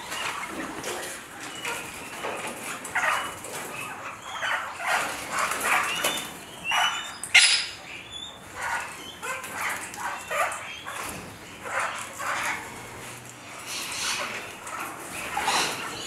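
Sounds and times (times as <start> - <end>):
parrots calling: 1.5 - 16.0.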